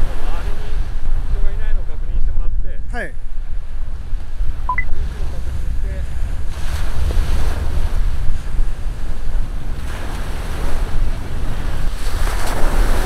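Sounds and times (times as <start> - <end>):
waves breaking on beach: 0.0 - 1.8, 3.2 - 13.0
wind on microphone: 0.0 - 13.0.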